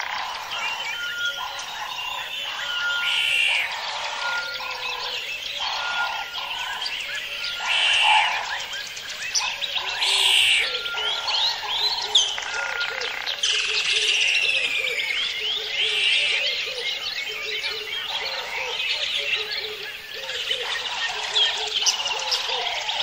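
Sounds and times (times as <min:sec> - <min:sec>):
birds chirping and calling: 0:00.0 - 0:23.0
frogs croaking: 0:00.0 - 0:23.0.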